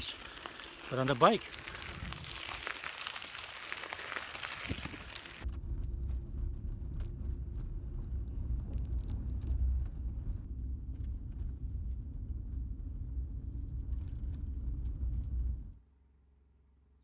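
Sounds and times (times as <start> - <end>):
car road rumble: 0.0 - 15.8.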